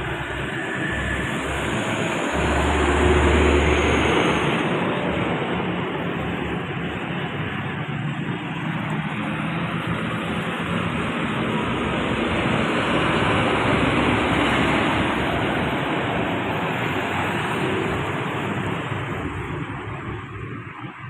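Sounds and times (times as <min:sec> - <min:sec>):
bus driving past: 0:00.0 - 0:21.0.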